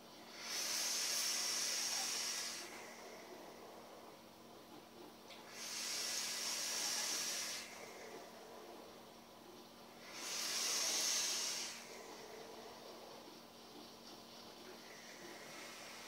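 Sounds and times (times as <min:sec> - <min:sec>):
airy vaping hiss: 0:00.0 - 0:04.1, 0:05.3 - 0:08.8, 0:09.9 - 0:16.0.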